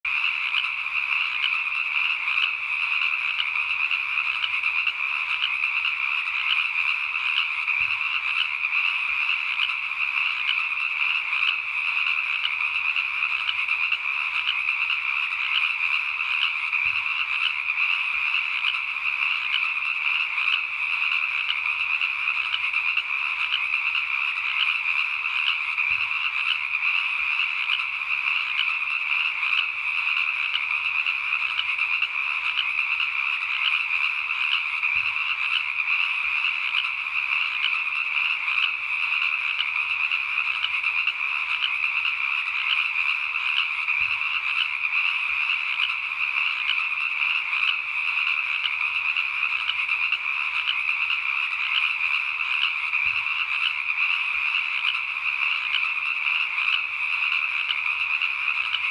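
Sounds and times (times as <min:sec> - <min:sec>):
frogs calling: 0:00.0 - 0:58.9.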